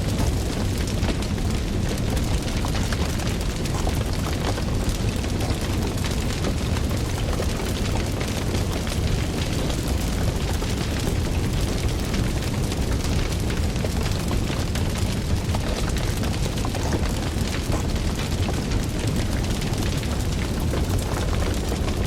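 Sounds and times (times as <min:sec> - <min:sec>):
fire crackling pops: 0:00.0 - 0:22.0
fire rumbling: 0:00.0 - 0:22.0.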